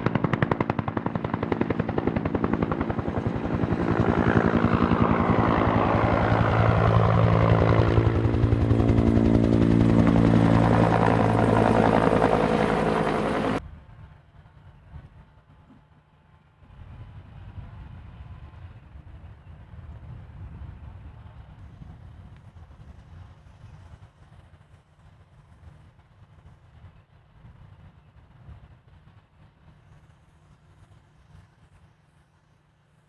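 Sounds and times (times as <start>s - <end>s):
helicopter flying low past: 0.0s - 33.0s.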